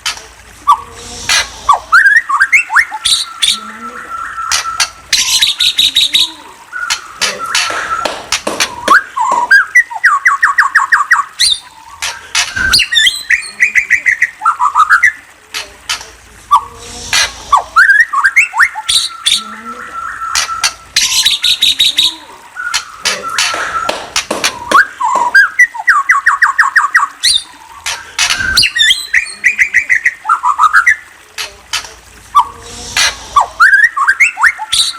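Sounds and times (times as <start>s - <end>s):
high bird chirps: 1.7s - 15.2s, 17.5s - 31.1s, 33.4s - 34.9s
songbird singing: 1.7s - 16.8s, 17.5s - 32.8s, 33.4s - 34.9s.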